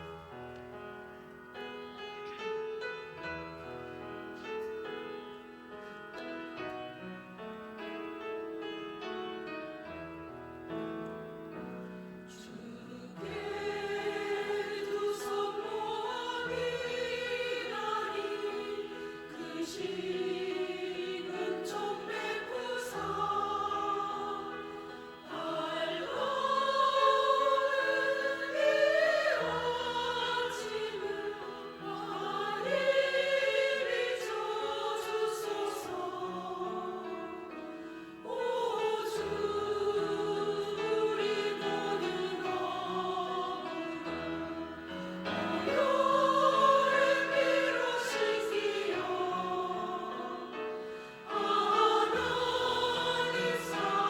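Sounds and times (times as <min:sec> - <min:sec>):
church choir singing a hymn: 0:00.0 - 0:54.0
piano passage: 0:00.0 - 0:54.0.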